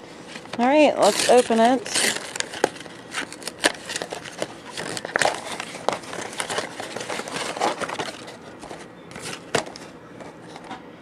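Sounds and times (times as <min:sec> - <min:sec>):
packaging crinkling: 0:00.2 - 0:09.9.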